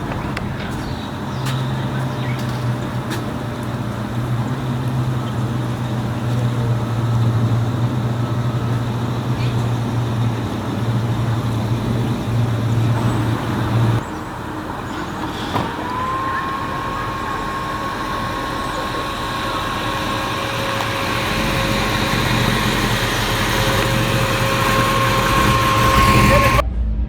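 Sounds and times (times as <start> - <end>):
car engine hum: 0.0 - 26.6
steady high tone: 3.3 - 27.0.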